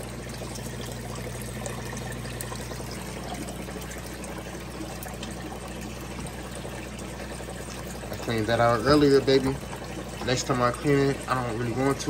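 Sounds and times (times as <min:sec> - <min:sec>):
steady low hum: 0:00.0 - 0:12.0
water splashing into tank: 0:00.0 - 0:12.0.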